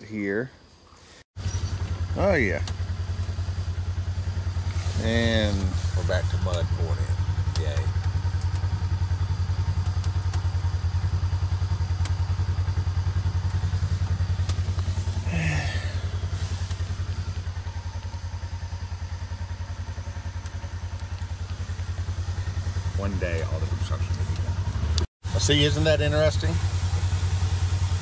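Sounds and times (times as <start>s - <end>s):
utility vehicle engine pulsing: 1.4s - 28.0s.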